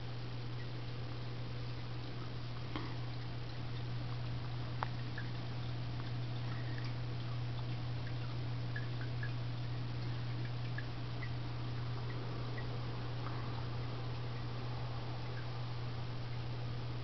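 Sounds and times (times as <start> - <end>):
aquarium pump humming: 0.0 - 17.0.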